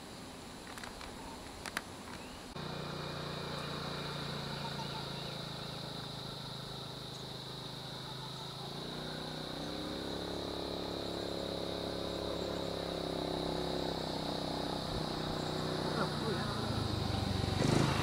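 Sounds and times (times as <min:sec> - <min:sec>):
high insect drone: 0:00.0 - 0:18.0
vehicle engine running: 0:02.5 - 0:18.0.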